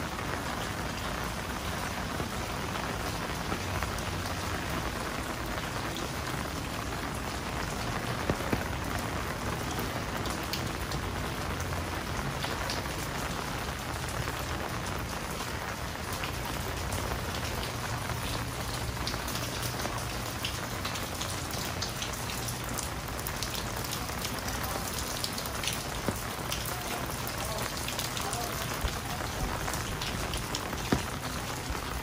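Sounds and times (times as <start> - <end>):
heavy rain on paving: 0.0 - 32.0.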